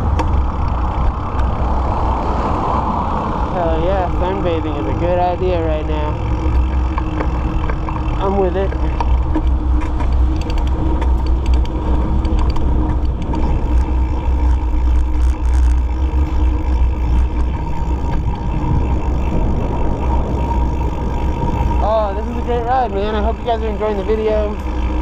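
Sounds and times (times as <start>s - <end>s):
bike tyre and road rumble: 0.0s - 25.0s
wind buffeting microphone: 0.0s - 25.0s.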